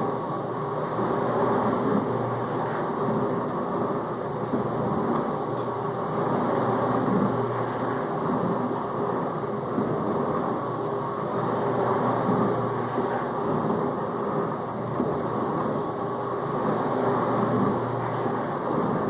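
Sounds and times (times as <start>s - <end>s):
dishwasher pump hum: 0.0s - 19.0s.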